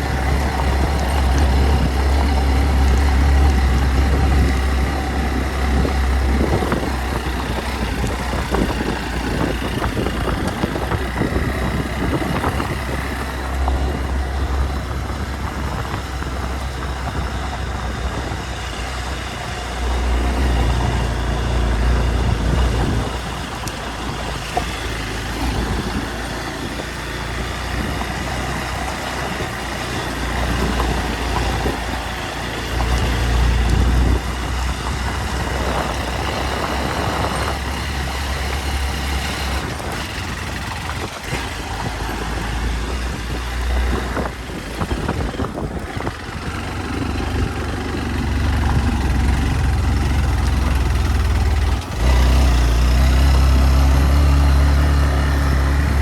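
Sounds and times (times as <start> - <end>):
motorcycle engine rumbling: 0.0 - 56.0.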